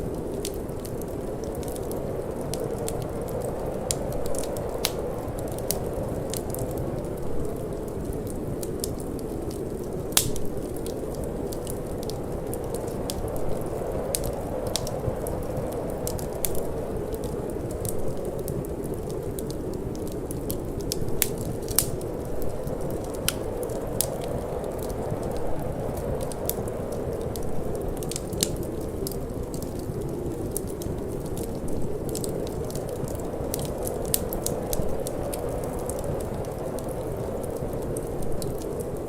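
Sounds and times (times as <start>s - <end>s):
low rush of wind: 0.0s - 39.0s
wood fire crackling: 0.0s - 39.0s.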